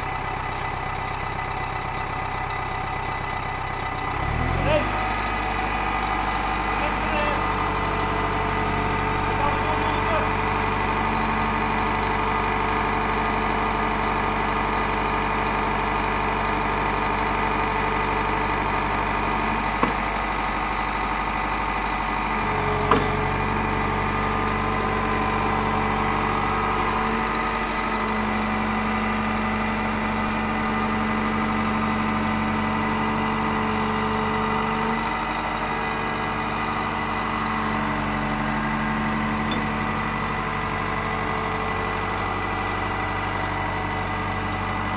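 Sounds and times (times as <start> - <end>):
excavator engine idling: 0.0 - 44.9.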